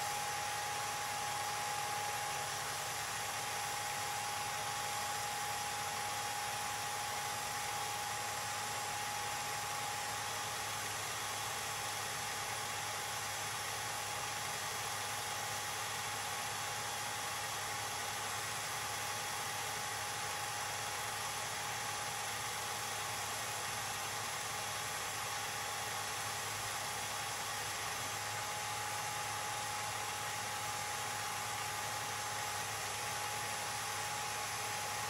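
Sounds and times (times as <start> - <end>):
film projector whirring: 0.0 - 35.0.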